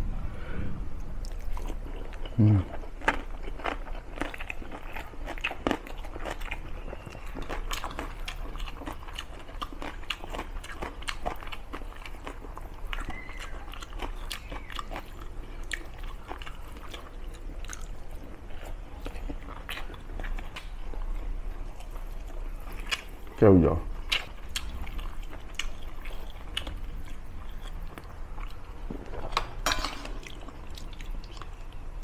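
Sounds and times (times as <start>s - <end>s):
person chewing food: 0.9s - 31.9s.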